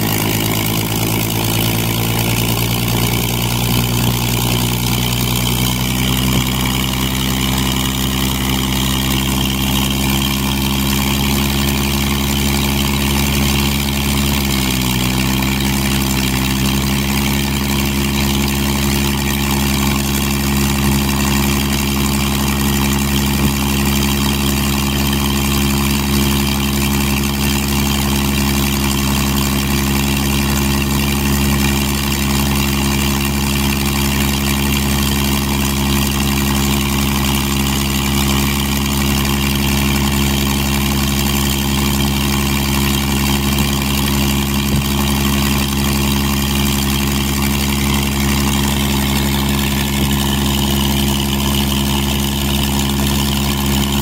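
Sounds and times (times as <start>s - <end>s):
aircraft engine running: 0.0s - 54.0s.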